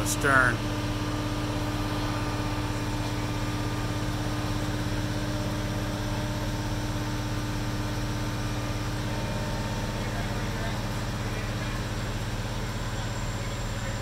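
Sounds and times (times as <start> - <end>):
diesel engine droning: 0.0 - 14.0
steady hum: 0.0 - 14.0.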